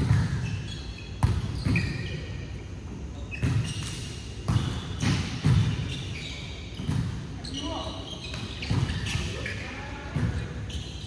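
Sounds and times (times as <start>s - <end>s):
shoes squeaking on court floor: 0.0s - 11.0s.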